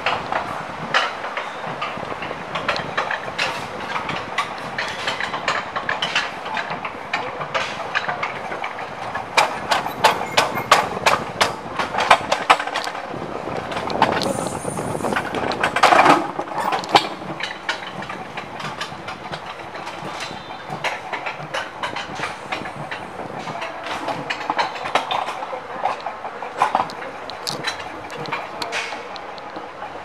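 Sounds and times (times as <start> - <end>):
coaster wheels rumbling on rails: 0.0 - 30.0
sharp track clacks: 0.0 - 30.0.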